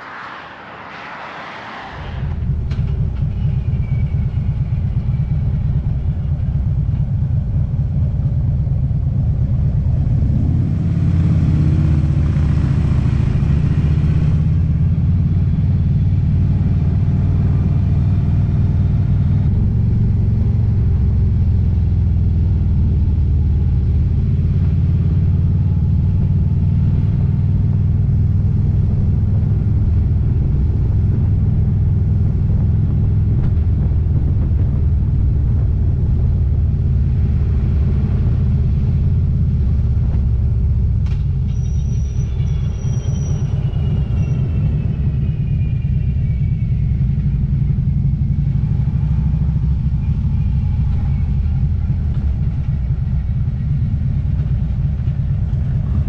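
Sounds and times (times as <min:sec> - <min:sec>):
motorcycle engine running: 0:02.4 - 0:41.4, 0:44.5 - 0:56.0.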